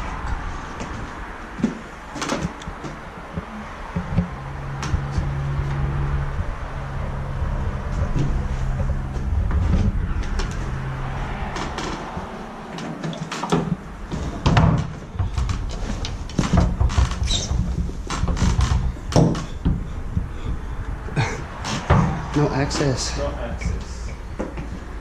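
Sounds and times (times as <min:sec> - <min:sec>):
knocks and clatters: 0:00.1 - 0:25.0.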